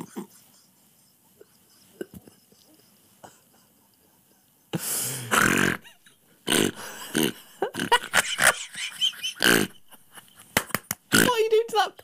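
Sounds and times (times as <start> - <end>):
man laughing: 0.0 - 6.2, 6.8 - 10.6.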